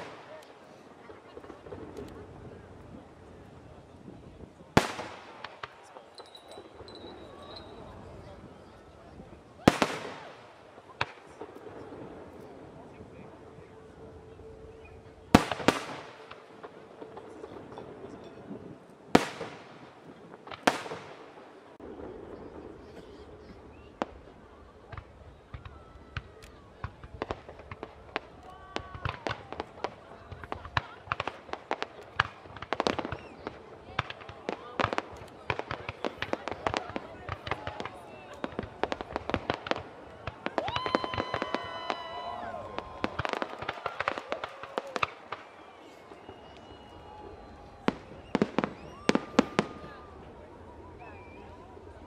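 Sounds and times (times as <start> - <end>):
fireworks pops and cracks: 0.0 - 13.6, 14.4 - 52.0
fireworks sharp report: 0.0 - 52.0.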